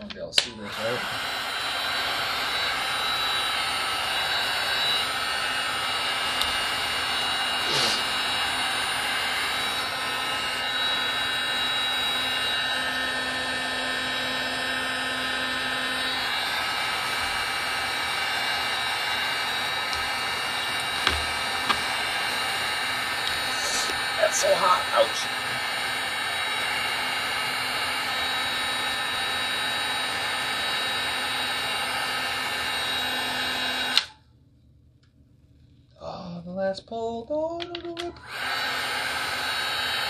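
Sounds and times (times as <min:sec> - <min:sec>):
heat gun blowing: 0:00.6 - 0:34.2, 0:38.2 - 0:40.0.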